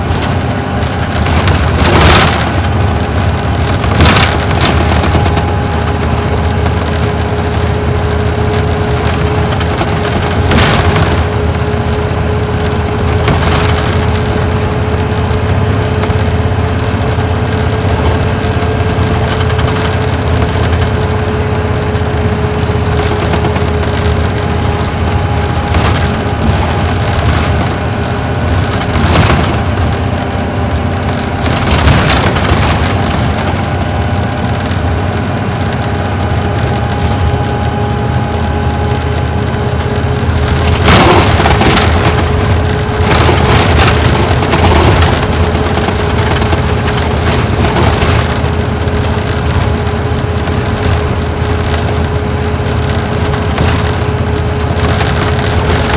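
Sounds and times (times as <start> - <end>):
diesel engine and road noise: 0.0 - 55.9
engine whine: 0.0 - 55.9
rattling crackly surges: 0.0 - 55.9.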